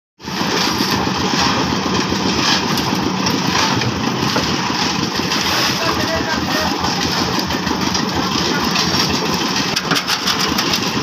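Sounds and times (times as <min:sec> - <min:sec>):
concrete mixer engine running: 0:00.2 - 0:11.0.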